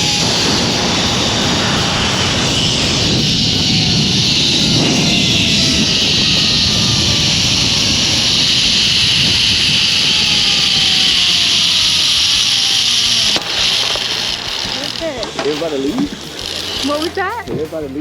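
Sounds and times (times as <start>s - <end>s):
wind rush on microphone: 0.0s - 14.5s
zip-line trolley whine: 0.0s - 17.2s.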